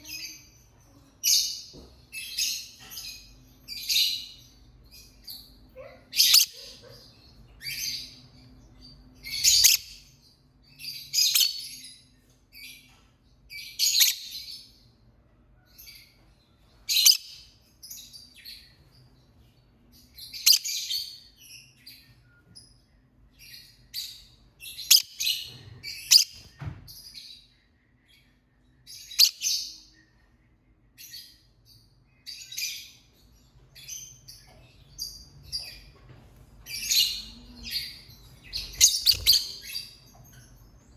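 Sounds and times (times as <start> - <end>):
lovebird chirping: 1.3 - 12.0, 12.6 - 14.7, 15.7 - 19.0, 20.0 - 22.8, 23.4 - 35.9, 36.6 - 40.9.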